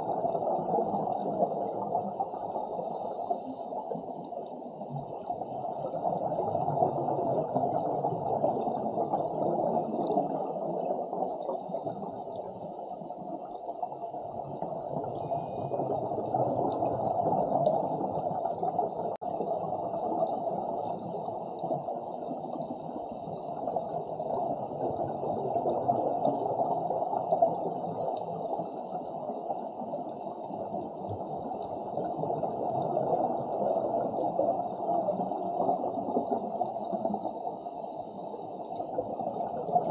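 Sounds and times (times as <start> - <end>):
faint crackle: 0.0 - 39.9.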